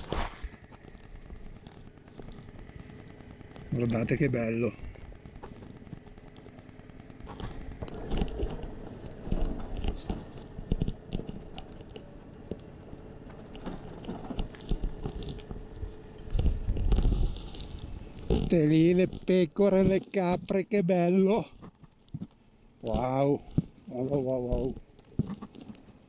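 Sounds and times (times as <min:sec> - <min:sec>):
low engine rumble: 0:00.0 - 0:26.0
stones knocking under wheels: 0:00.0 - 0:26.0
tyres crunching over gravel: 0:00.0 - 0:26.0.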